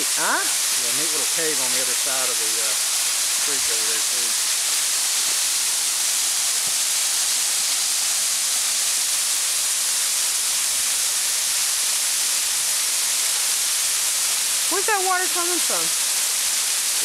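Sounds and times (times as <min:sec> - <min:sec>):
waterfall rushing onto rock: 0:00.0 - 0:17.0.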